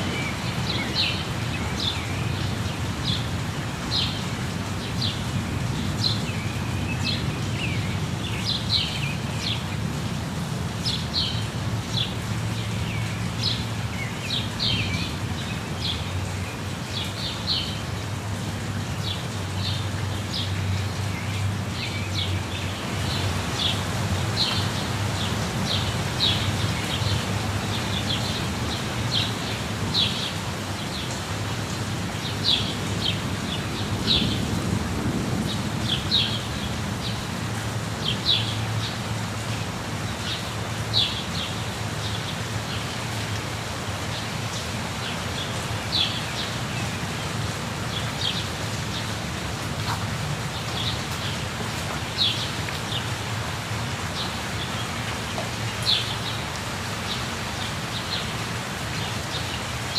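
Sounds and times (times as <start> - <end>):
small birds chirping: 0.0 - 9.9, 18.8 - 34.5, 35.5 - 59.9
waterfall rushing: 0.0 - 59.9.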